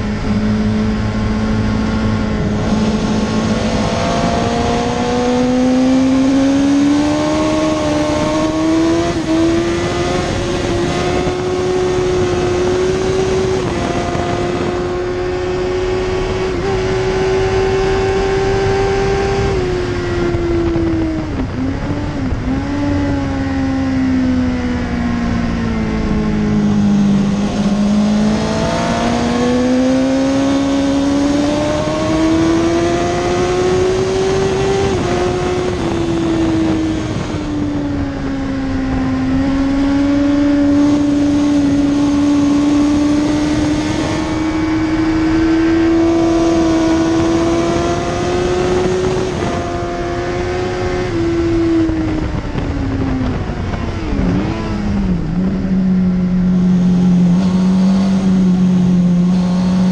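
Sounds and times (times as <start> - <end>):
heavy wind rush: 0.0 - 59.9
motorcycle engine at high revs: 0.0 - 59.9.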